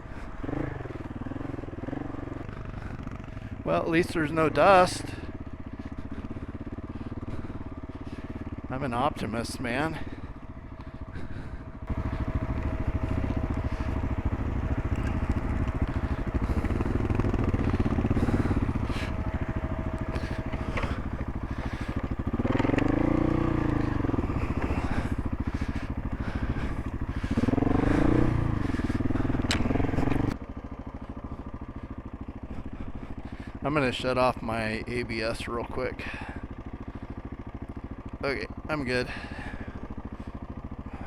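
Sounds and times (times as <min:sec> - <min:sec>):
motorcycle engine revving and idling: 0:00.0 - 0:41.0.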